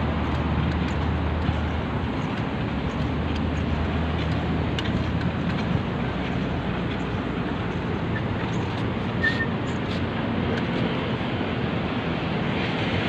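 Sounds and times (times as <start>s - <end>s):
road traffic: 0.0s - 13.0s
wind buffeting microphone: 0.0s - 13.0s.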